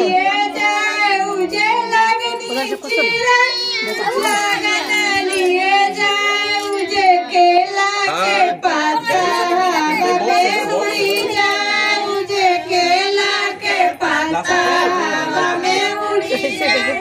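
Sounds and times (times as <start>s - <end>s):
women singing folk song together: 0.0s - 17.0s.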